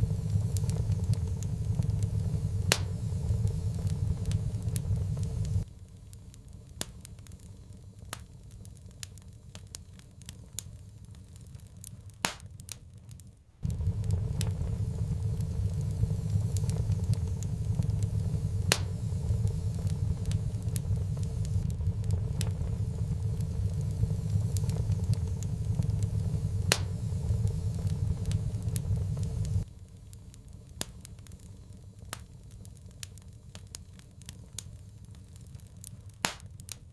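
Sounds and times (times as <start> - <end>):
low steady roar: 0.0 - 6.6, 13.6 - 36.7
fire crackling and popping: 0.0 - 36.9.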